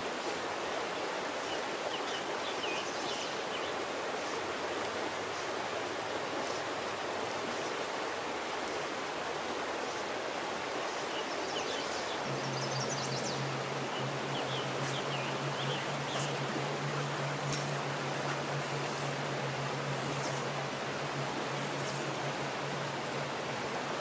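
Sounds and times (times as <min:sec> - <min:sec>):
low steady hum: 0:00.0 - 0:24.0
river water rushing: 0:00.0 - 0:24.0.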